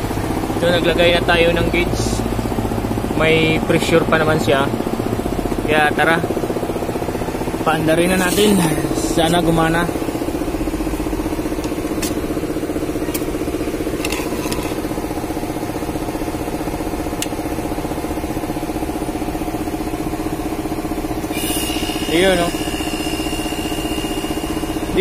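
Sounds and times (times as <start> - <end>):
freezer compressor humming: 0.0 - 25.0.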